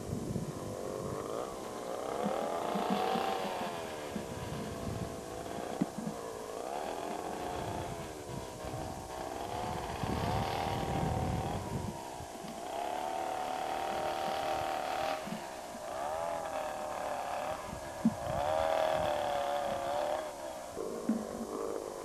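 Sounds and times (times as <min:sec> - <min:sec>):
chairlift mechanical whine: 0:00.0 - 0:22.0.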